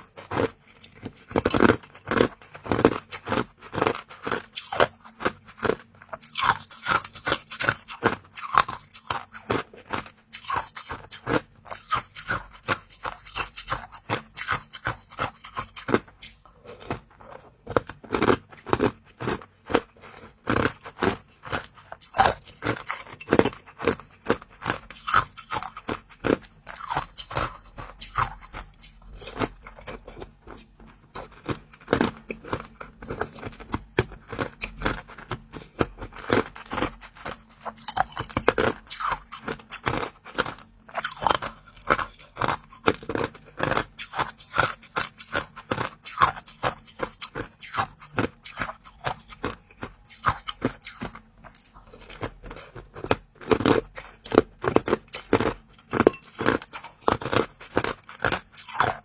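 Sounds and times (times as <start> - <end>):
crunching and chewing crisp food: 0.0 - 59.0.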